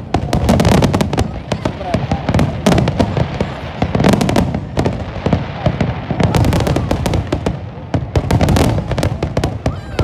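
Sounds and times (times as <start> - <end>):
fireworks pops and crackles: 0.0 - 10.0.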